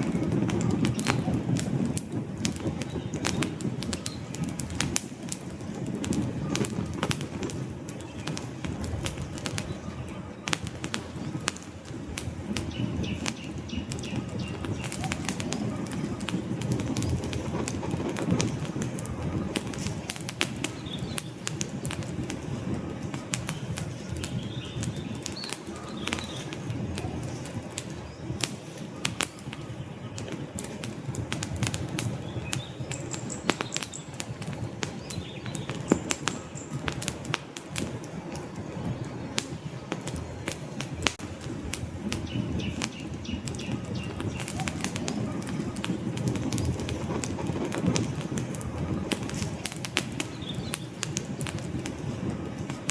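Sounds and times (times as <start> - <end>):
low rumble of flames: 0.0 - 52.9
wood fire crackling and popping: 0.0 - 52.9.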